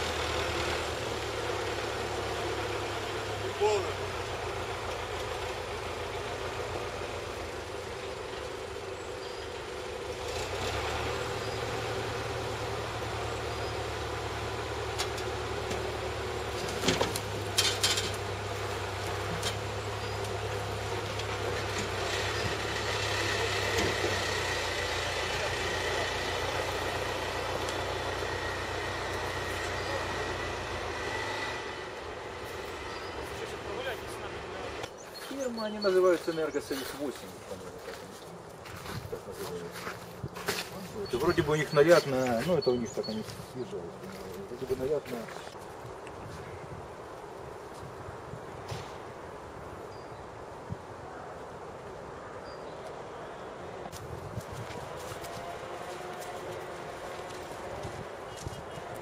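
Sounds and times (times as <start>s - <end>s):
truck engine idling: 0.0s - 45.6s, 53.1s - 59.0s.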